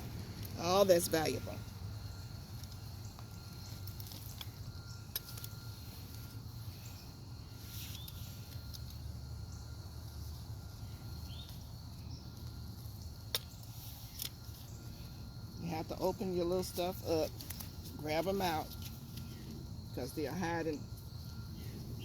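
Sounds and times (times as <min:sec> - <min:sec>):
faint rustling of roots and soil: 0:00.0 - 0:22.0
steady low hum: 0:00.0 - 0:22.0.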